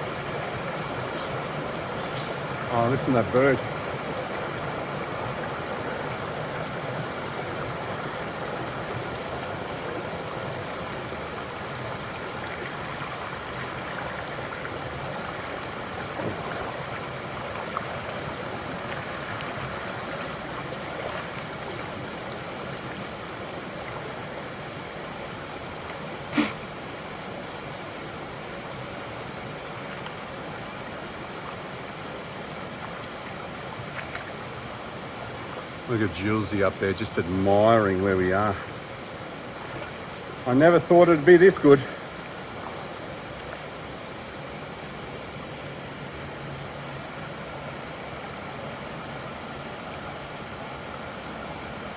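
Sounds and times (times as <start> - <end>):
creek water over rocks: 0.0 - 51.9.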